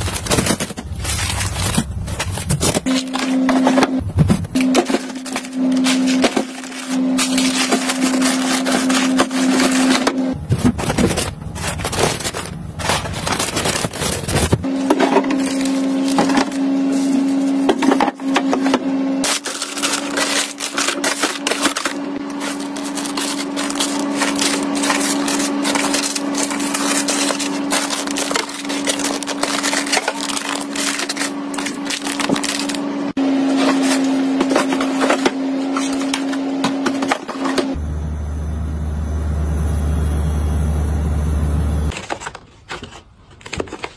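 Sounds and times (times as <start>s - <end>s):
plastic bags crinkling: 0.0s - 18.4s, 19.2s - 37.8s
low hum: 0.1s - 41.9s.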